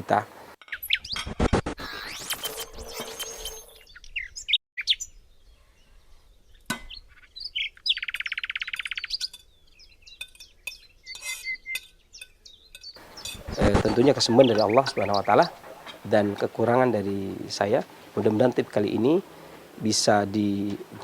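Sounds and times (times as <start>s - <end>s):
birds chirping: 0.0s - 21.0s
bird trill: 0.6s - 19.8s.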